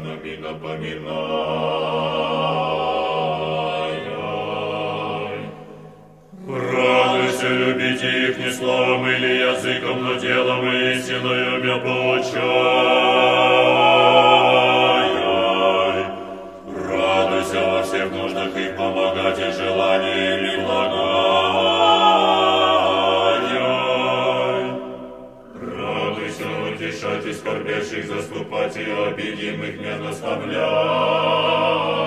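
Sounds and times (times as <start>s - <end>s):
church choir chanting: 0.0s - 32.0s.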